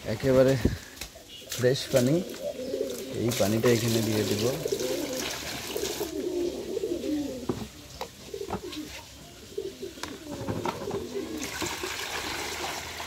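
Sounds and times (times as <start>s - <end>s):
pigeons cooing: 0.8s - 12.0s.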